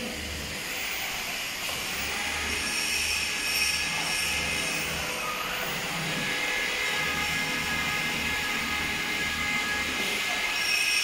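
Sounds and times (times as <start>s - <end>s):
router spindle high-pitched whine: 0.0s - 11.0s.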